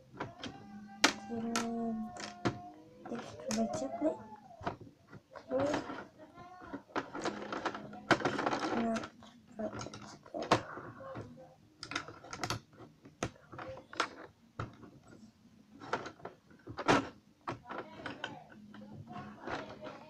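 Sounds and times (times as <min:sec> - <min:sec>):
plastic bricks clicking: 0:00.1 - 0:20.0.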